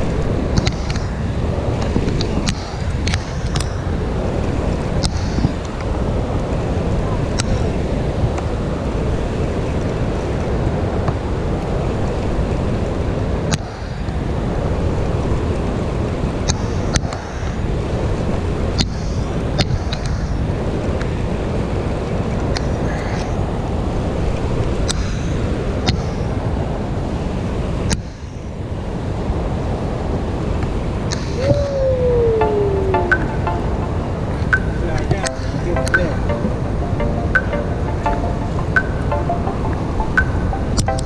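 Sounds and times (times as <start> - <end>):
rushing river water: 0.0 - 41.0
wind noise on microphone: 0.0 - 41.0.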